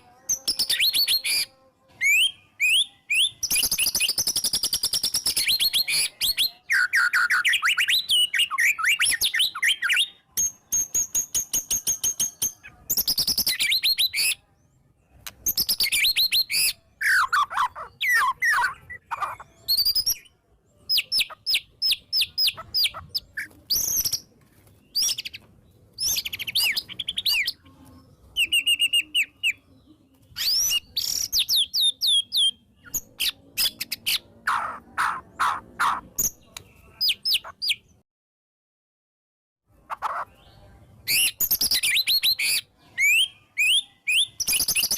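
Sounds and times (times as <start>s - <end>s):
songbird singing varied phrases: 0.0s - 38.0s, 39.7s - 44.9s.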